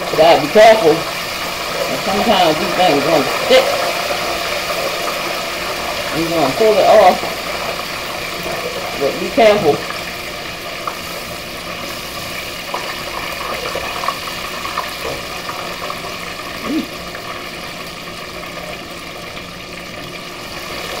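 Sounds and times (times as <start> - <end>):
oil bubbling and sizzling: 0.0 - 21.0.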